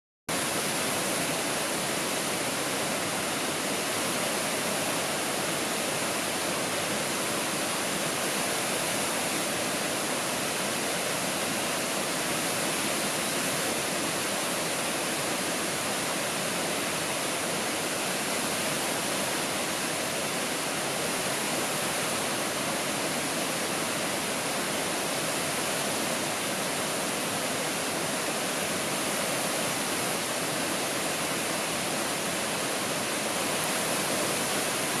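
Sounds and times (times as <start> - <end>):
waterfall rushing: 0.3 - 35.0.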